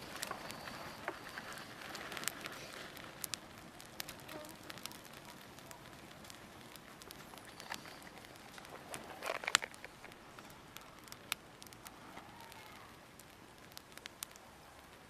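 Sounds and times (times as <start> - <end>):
campfire hissing: 0.0 - 15.0
wood crackling and popping: 0.0 - 15.0.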